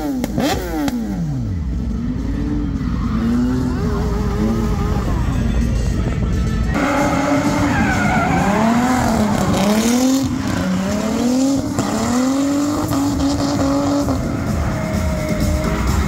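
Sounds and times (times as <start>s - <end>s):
car engine revving: 0.0s - 16.0s
tyres squealing and skidding: 2.5s - 16.0s.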